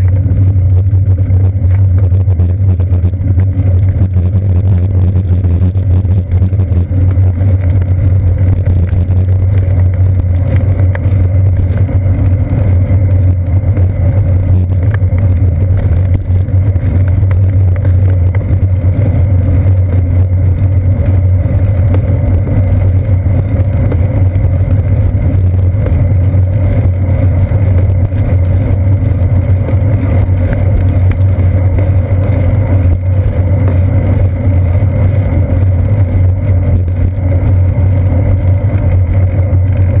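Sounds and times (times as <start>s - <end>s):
bicycle rolling over pavement: 0.0s - 40.0s.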